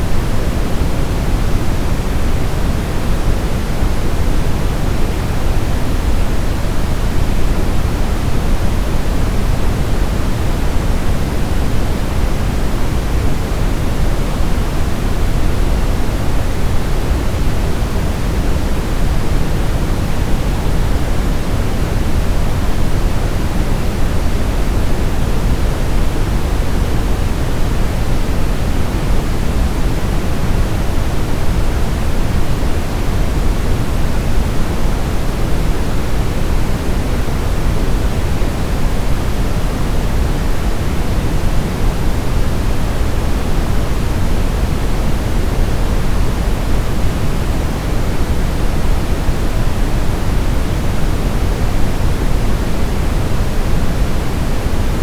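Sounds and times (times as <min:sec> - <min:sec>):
soft deep white noise: 0:00.0 - 0:55.0.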